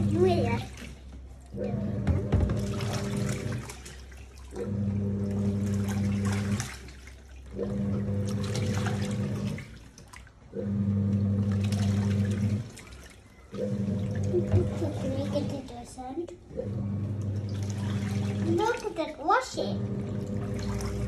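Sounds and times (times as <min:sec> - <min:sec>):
washing machine motor humming: 0:00.0 - 0:21.0
water sloshing: 0:00.0 - 0:21.0.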